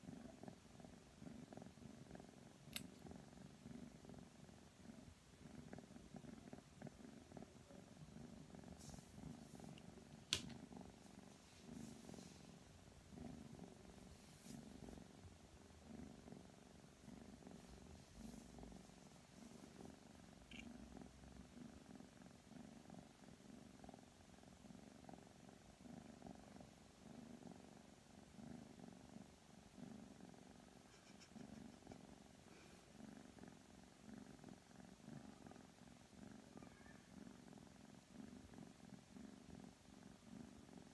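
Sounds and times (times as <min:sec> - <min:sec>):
kitten purring: 0:00.0 - 0:40.9.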